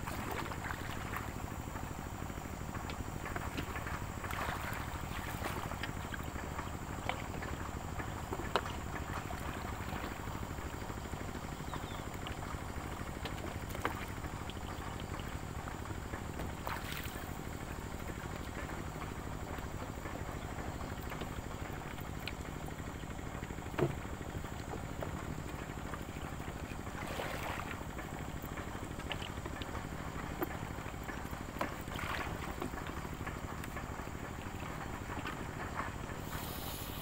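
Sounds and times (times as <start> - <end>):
river water flowing: 0.0 - 11.4, 12.0 - 20.0, 20.6 - 37.0.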